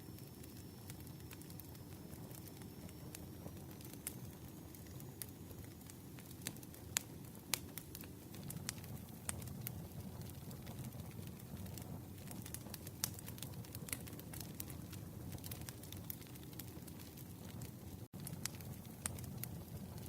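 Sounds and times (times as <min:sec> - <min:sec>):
low rumble of fire: 0:00.0 - 0:20.0
campfire crackling and popping: 0:00.1 - 0:20.0.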